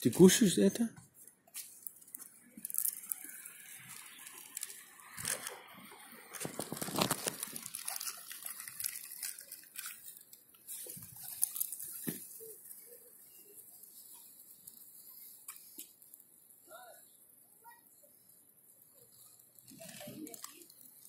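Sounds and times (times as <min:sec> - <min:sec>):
rustling and crinkling: 0:00.2 - 0:21.0.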